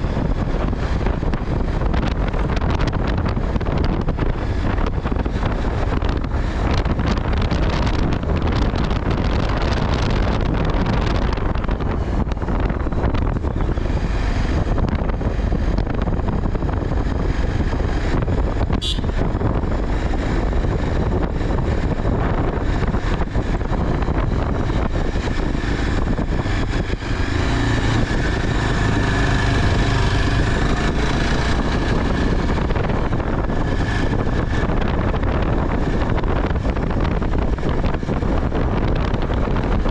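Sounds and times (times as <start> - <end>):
vehicle engine running: 0.0 - 39.9
wind buffeting microphone: 0.0 - 39.9.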